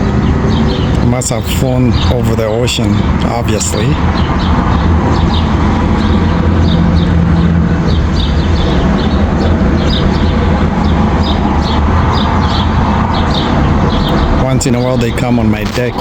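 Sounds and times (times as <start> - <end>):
songbirds chirping: 0.0 - 16.0
steady low rumble: 0.0 - 16.0.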